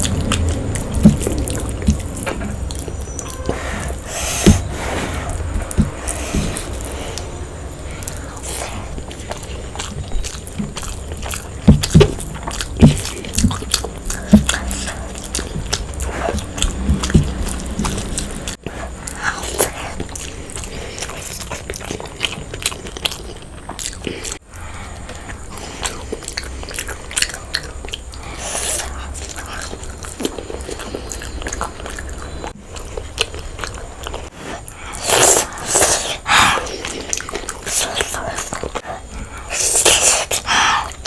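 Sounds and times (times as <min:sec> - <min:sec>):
person biting and chewing food: 0:00.0 - 0:41.0.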